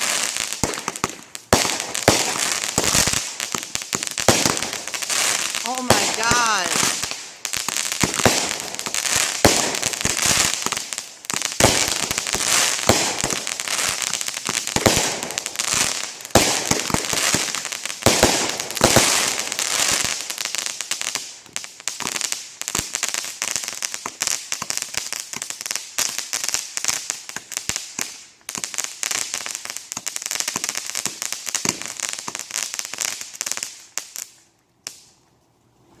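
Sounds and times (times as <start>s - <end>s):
fireworks crackling and popping: 0.0s - 35.3s.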